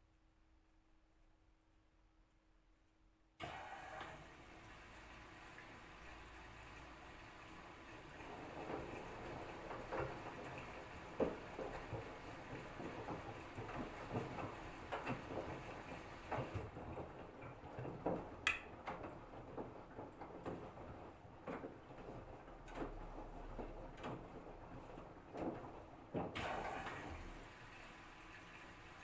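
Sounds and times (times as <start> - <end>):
laundry sloshing in washing machine: 3.4 - 29.0.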